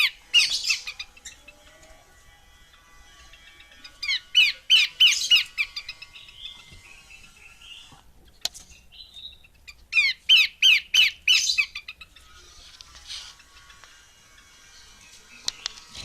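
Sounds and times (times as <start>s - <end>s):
soft bird calls: 0.0s - 1.7s, 3.3s - 16.0s
bird calling with sharp repeated notes: 0.0s - 1.8s, 2.6s - 16.0s.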